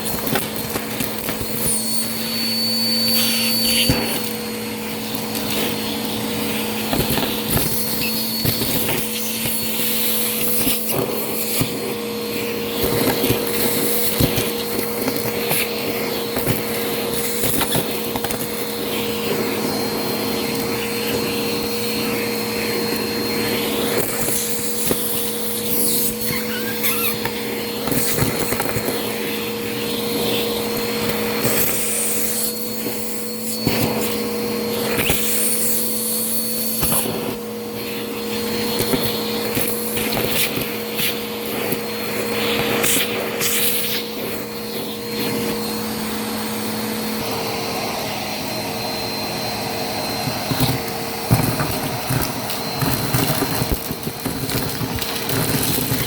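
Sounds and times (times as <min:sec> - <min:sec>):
debris crackling in vacuum: 0:00.0 - 0:56.0
vacuum cleaner running: 0:00.0 - 0:56.0.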